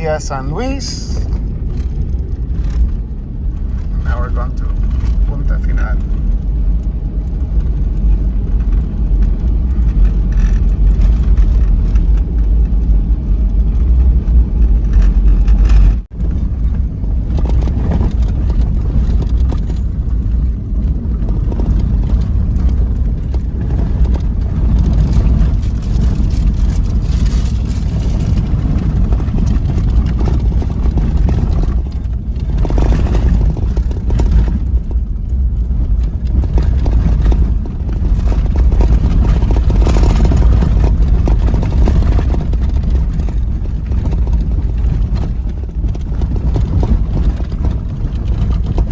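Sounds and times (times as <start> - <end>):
vehicle engine and road rumble: 0.0 - 48.9.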